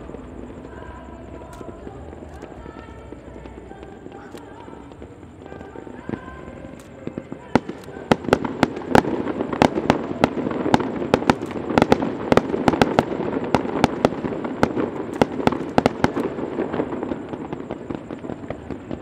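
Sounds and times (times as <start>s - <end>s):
continuous fireworks rumble: 0.0s - 19.0s
fireworks bangs: 0.0s - 19.0s.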